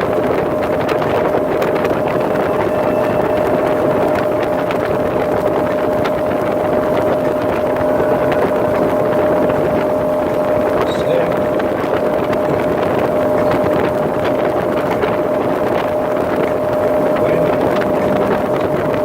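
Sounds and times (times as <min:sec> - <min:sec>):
motorboat engine droning: 0:00.0 - 0:19.0
rushing wind: 0:00.0 - 0:19.0
water noise: 0:00.0 - 0:19.0.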